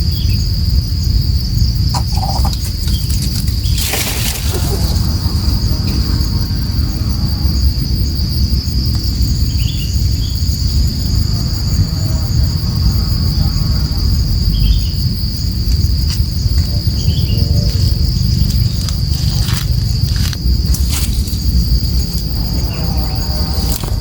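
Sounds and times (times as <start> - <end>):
insects droning: 0.0 - 24.0
loud low rumble: 0.8 - 9.6, 10.4 - 24.0.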